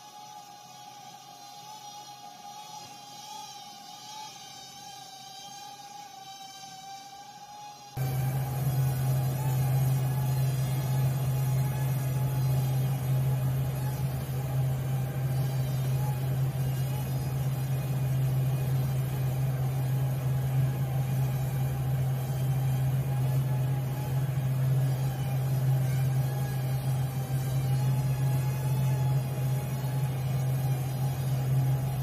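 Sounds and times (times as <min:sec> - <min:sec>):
quadcopter propeller whine: 0:00.0 - 0:32.0.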